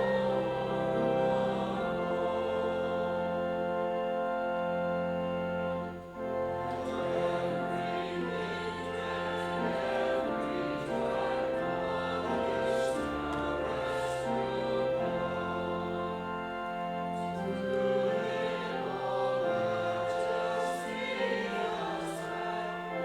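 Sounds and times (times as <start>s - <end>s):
slow music of held chords: 0.0s - 23.0s.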